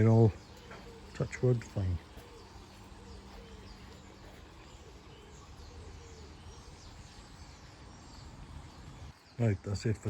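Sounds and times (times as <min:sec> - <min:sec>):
low steady background hum: 0:00.0 - 0:10.0
small birds chirping: 0:00.0 - 0:10.0.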